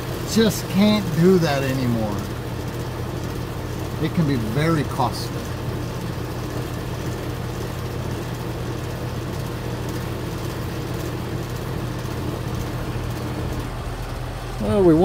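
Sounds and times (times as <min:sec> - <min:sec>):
heat pump humming: 0:00.0 - 0:15.0.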